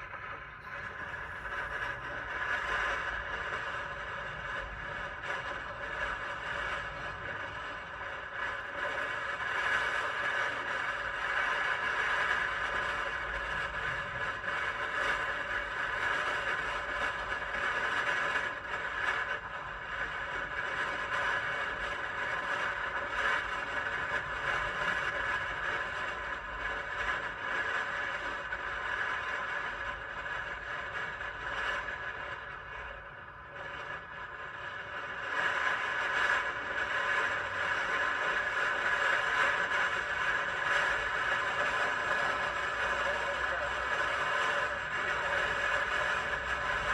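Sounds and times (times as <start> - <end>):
low wind rumble: 0.0 - 46.9.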